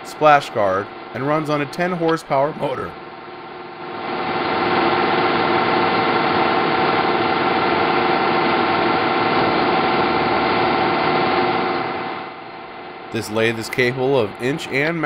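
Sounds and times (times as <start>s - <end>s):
lathe running with whine: 0.0s - 15.0s.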